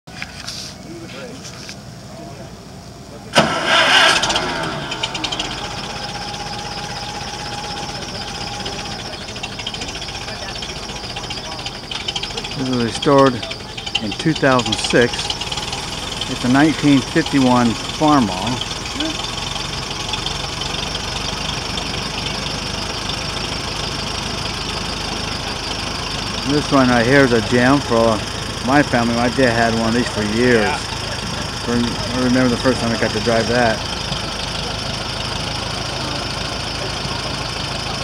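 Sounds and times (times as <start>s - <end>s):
tractor engine idling: 1.6s - 38.0s.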